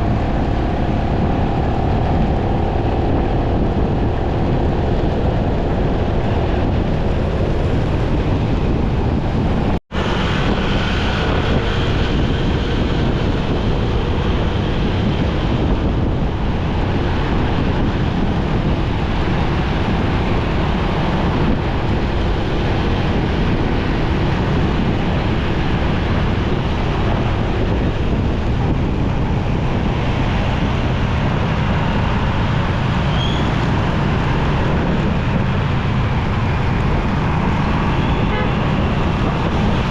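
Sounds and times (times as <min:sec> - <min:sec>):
motorcycle engine rumble: 0:00.0 - 0:39.9
surrounding traffic: 0:00.0 - 0:39.9
wind rushing over microphone: 0:00.0 - 0:39.9.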